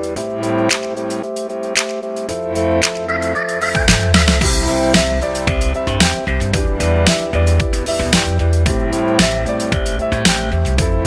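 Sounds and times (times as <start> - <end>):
electronic music heavy bass beat: 0.0 - 11.0.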